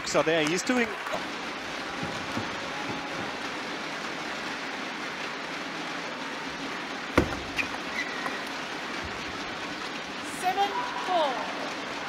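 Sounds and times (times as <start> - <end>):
hall ambience hiss: 0.0 - 12.0.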